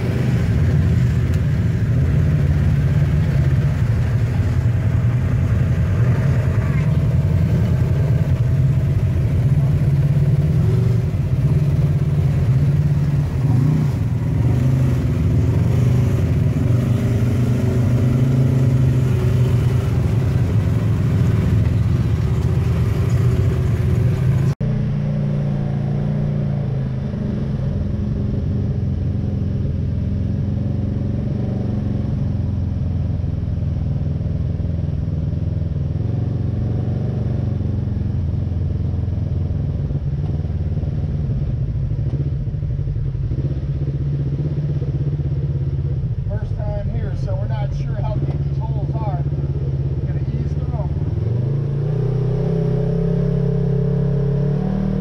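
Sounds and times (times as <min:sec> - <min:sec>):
engine heard from inside cab: 0:00.0 - 0:55.0
off-road vehicle engines running: 0:00.0 - 0:55.0.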